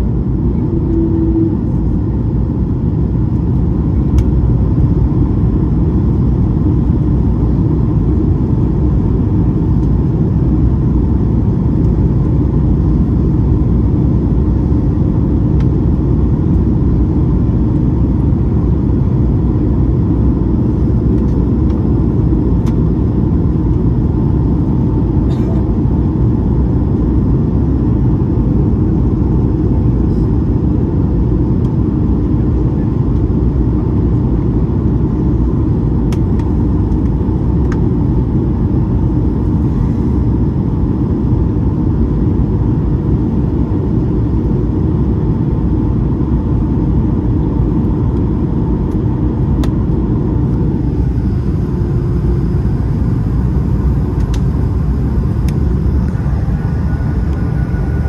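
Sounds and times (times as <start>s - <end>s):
airplane cabin airflow and engine noise: 0.0s - 58.0s
low rumble: 0.0s - 58.0s.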